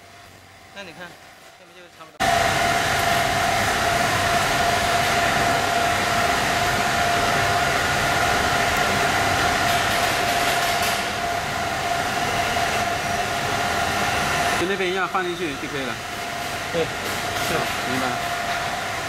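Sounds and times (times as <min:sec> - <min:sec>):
factory machinery whirring: 0:00.0 - 0:19.0.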